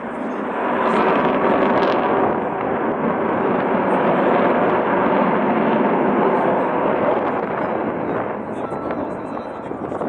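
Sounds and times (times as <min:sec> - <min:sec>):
jet engines passing overhead: 0:00.0 - 0:10.0.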